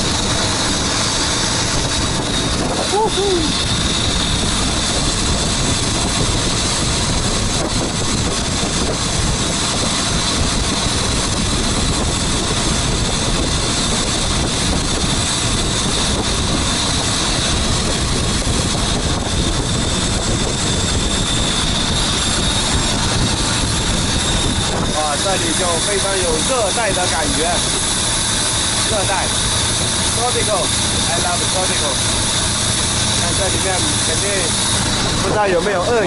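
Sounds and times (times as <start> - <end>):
boat engine drone: 0.0 - 36.0
water rushing: 0.0 - 36.0.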